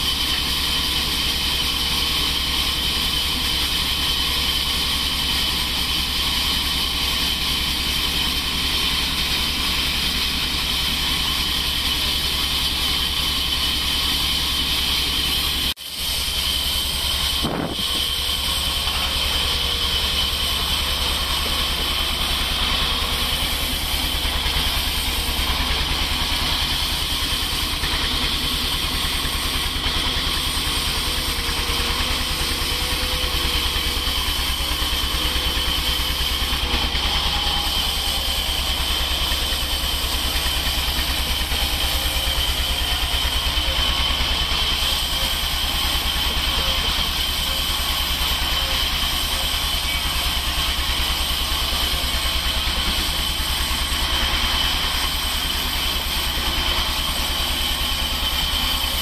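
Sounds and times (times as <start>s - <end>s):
band saw whining: 0.0s - 59.0s
low motor hum: 11.3s - 59.0s.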